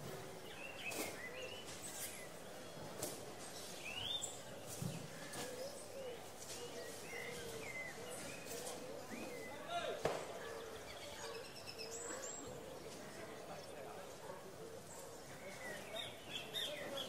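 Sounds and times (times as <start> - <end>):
small birds chirping: 0.0 - 17.0
steady background murmur: 0.0 - 17.0.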